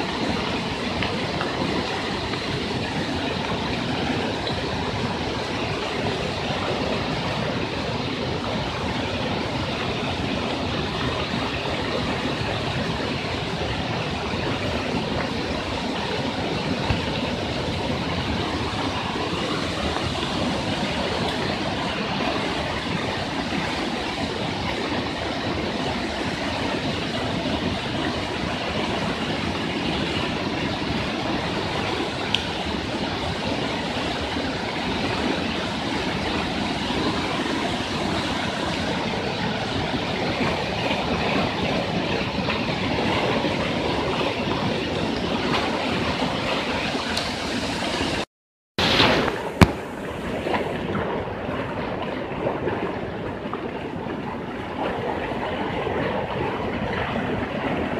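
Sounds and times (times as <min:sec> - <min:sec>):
floodwater rushing: 0:00.0 - 0:57.9.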